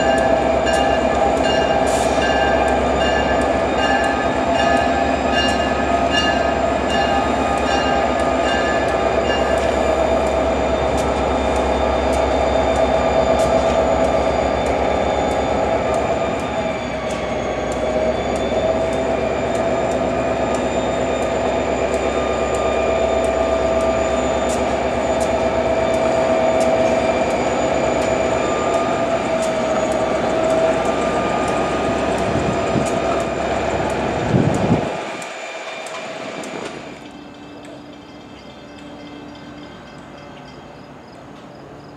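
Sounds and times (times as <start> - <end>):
train wheels squealing: 0.0 - 34.3, 35.2 - 41.9
locomotive engine rumbling: 0.0 - 41.9.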